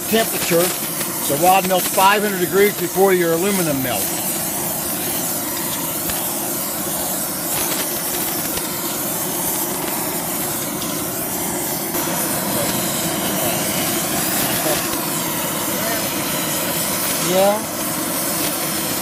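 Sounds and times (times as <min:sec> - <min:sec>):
gas torch burning: 0:00.0 - 0:19.0.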